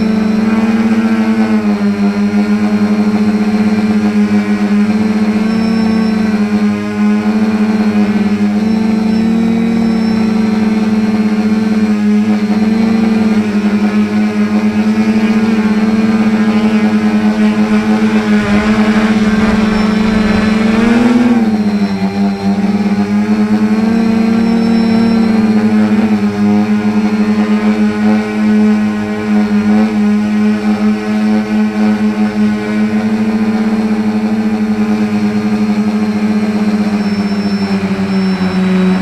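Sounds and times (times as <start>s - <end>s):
drone motors and propellers humming: 0.0s - 39.0s.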